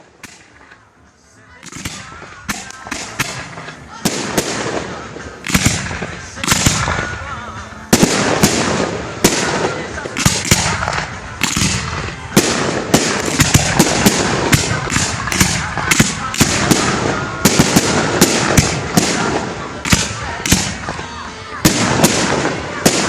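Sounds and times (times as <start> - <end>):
fireworks bursting with crackling: 1.6 - 23.0.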